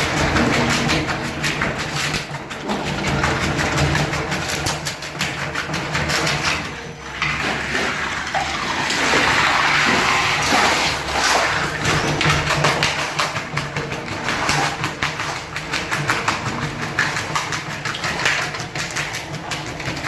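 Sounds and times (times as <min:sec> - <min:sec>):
blade scraping up flooring: 0:00.0 - 0:20.0
floor removal machine humming: 0:00.0 - 0:20.0.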